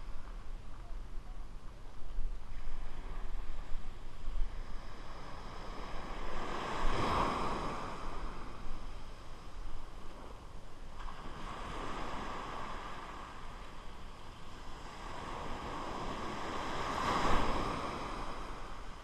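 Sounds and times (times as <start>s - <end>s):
surf washing up the beach: 2.4s - 19.0s.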